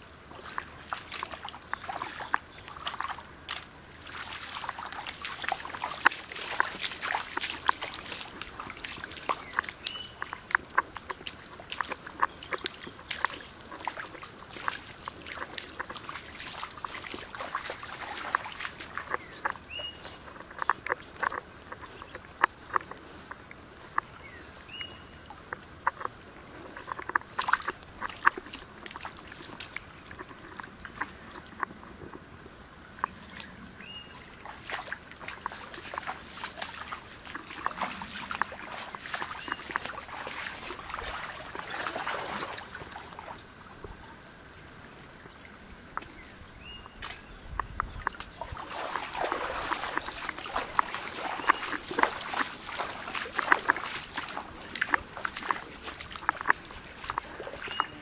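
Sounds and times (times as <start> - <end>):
footsteps splashing through stream: 0.0 - 58.0.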